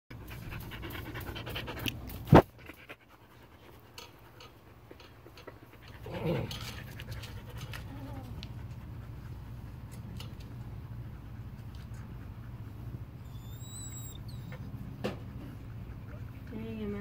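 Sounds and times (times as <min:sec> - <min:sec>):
dog panting: 0:00.1 - 0:17.0.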